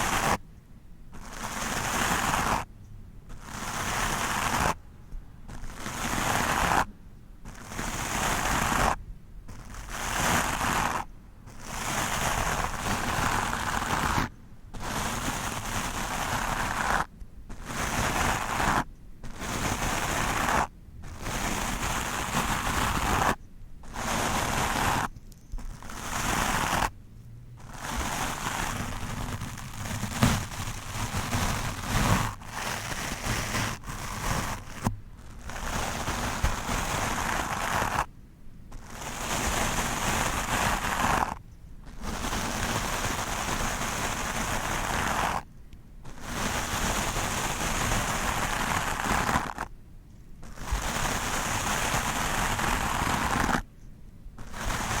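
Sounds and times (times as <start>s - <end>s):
brush scraping over microphone: 0.0s - 0.4s, 1.1s - 2.7s, 3.3s - 4.8s, 5.5s - 38.1s, 38.7s - 49.7s, 50.4s - 53.7s, 54.4s - 55.0s.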